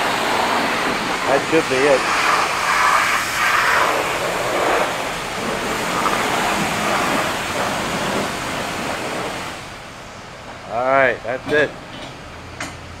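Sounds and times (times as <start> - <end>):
pressure washer spraying water: 0.0 - 10.4.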